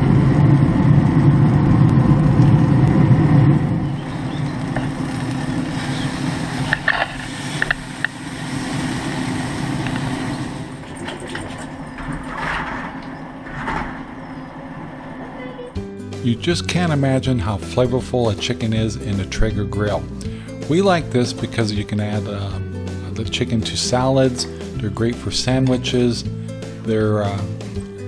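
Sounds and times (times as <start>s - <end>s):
pellet grill humming: 0.0s - 28.0s.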